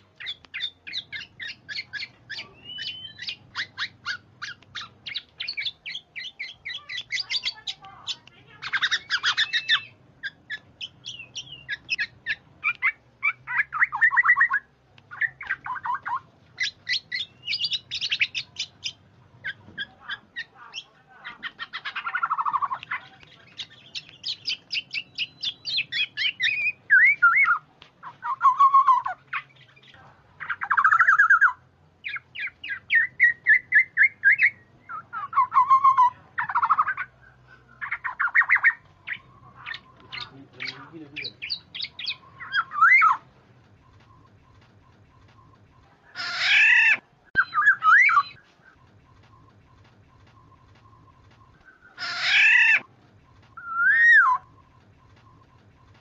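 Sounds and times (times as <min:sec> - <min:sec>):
oriole harsh chattering calls: 0:00.0 - 0:56.0.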